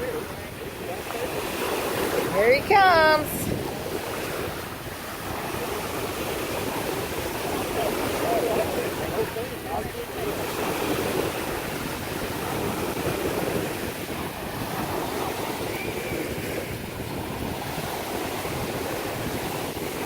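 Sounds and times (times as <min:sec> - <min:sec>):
surf washing: 0:00.0 - 0:20.0
wind noise on microphone: 0:00.0 - 0:20.0.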